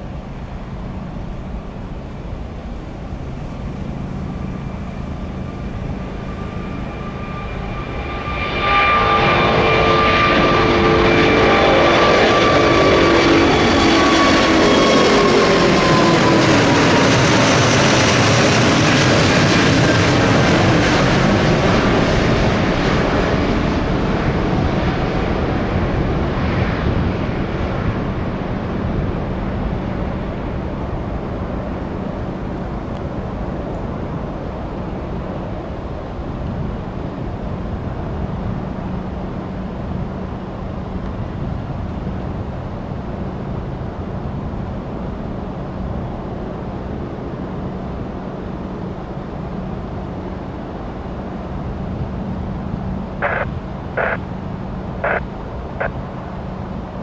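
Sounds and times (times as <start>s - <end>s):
distant steady rumble: 0.0s - 57.0s
jet airliner passing by: 0.0s - 57.0s.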